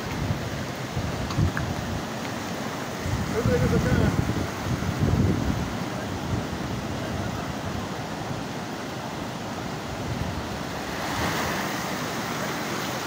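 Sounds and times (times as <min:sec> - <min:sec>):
flood water rushing down a street: 0:00.0 - 0:13.0.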